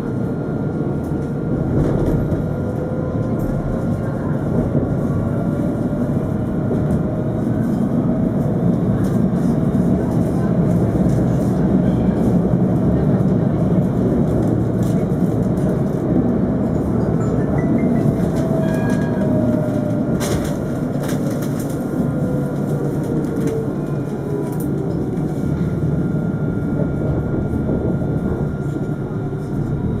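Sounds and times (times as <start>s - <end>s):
tram wheels rumbling on rail: 0.0s - 30.0s.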